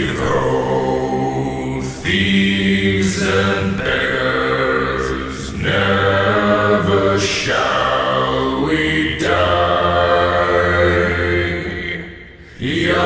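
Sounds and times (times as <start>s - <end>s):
chant-like voices holding notes: 0.0s - 13.0s.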